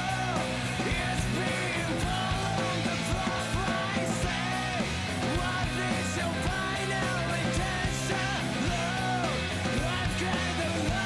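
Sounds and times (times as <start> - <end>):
distorted rock guitar: 0.0 - 11.0
person singing: 0.0 - 11.0.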